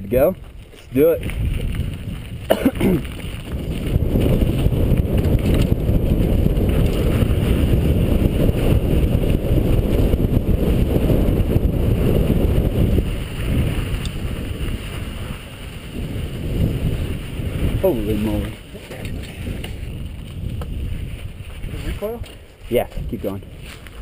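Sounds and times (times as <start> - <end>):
bike rattling over gravel: 0.0 - 24.0
tyres rumbling on dirt: 0.0 - 24.0
wind buffeting microphone: 0.0 - 24.0.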